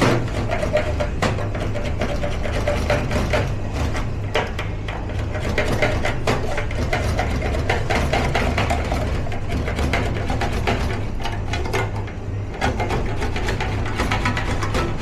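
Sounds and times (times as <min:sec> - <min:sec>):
clicks and clatter of kitchen work: 0:00.0 - 0:15.0
kitchen machinery humming: 0:00.0 - 0:15.0.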